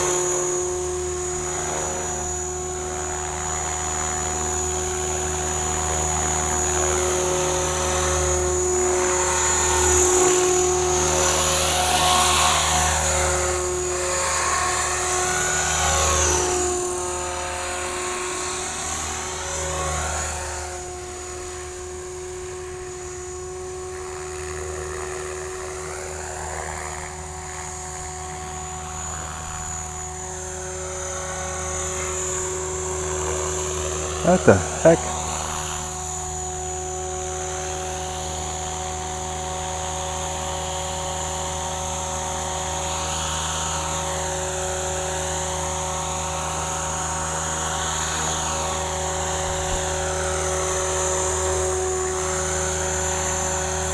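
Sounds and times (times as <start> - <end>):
model helicopter whine: 0.0 - 53.9.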